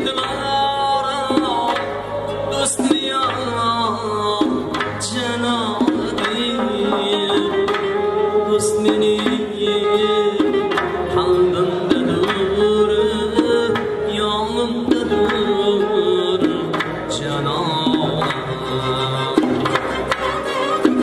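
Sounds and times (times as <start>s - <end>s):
folk instrumental melody: 0.0s - 21.0s
hand drum beat: 0.0s - 21.0s.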